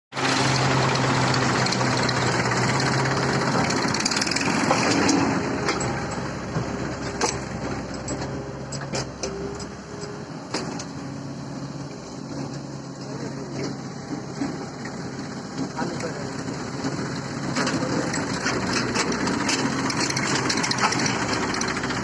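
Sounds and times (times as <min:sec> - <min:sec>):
tractor diesel engine running: 0:00.1 - 0:22.0.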